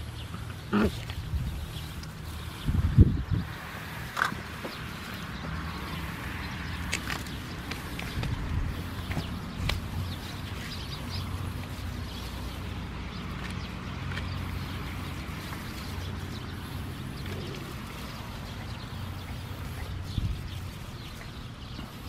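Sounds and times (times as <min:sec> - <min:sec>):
puppies rustling through dry grass: 0:00.0 - 0:22.0.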